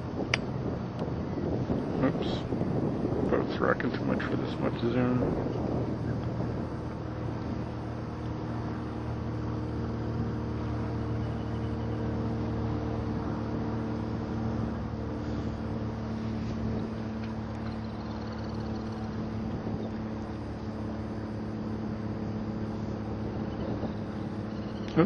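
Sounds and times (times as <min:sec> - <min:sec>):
motorboat engine humming: 0:00.0 - 0:25.0.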